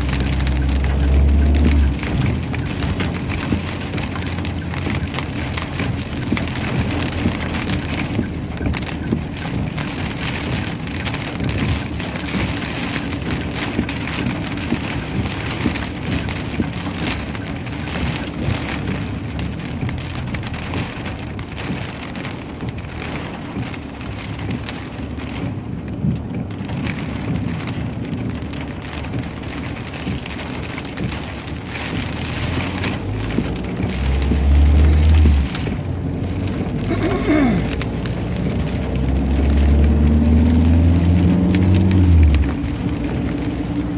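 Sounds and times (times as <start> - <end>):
heavy rain and hail pelting: 0.0 - 43.9.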